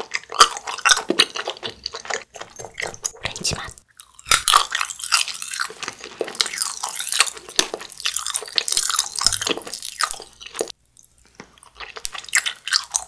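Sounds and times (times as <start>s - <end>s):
chewing gummy jelly: 0.0s - 13.0s.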